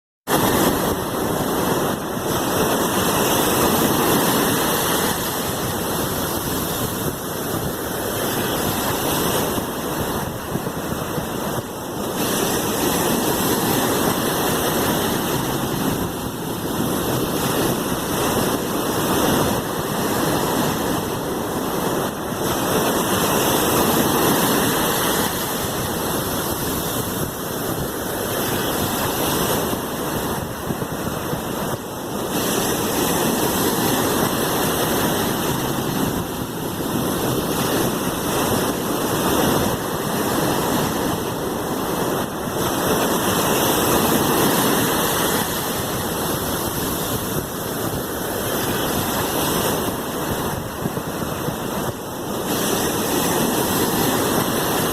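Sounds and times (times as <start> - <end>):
sea waves washing in: 0.3 - 54.9.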